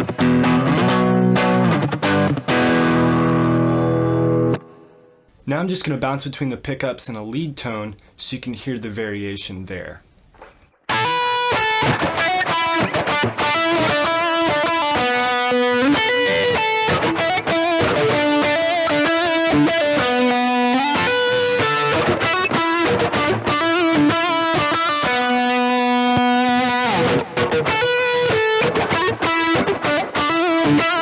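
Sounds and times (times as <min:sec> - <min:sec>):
overdriven electric guitar melody: 0:00.0 - 0:05.2, 0:10.9 - 0:31.0.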